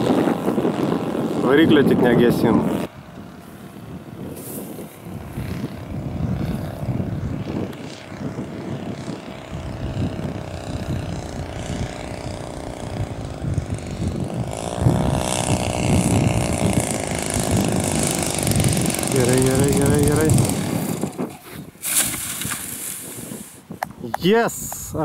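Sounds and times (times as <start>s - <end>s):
model plane engine and propeller: 0.0s - 25.0s.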